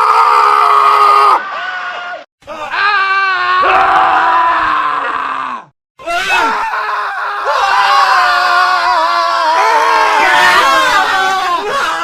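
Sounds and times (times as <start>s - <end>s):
men screaming: 0.0s - 12.0s.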